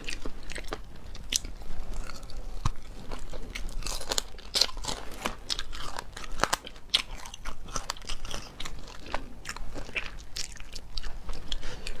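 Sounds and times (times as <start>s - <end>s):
chewing and crunching bony meat: 0.0s - 12.0s.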